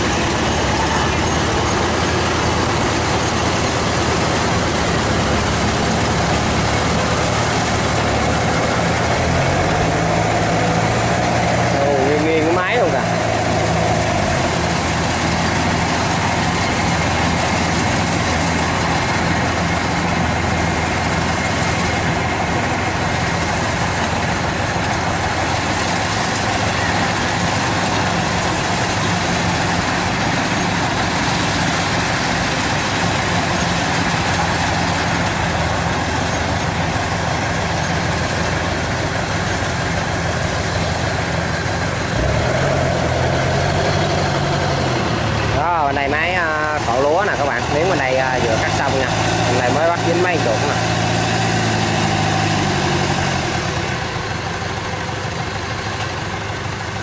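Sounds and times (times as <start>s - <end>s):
threshing machinery rushing: 0.0s - 54.1s
diesel engine drone: 0.0s - 57.0s.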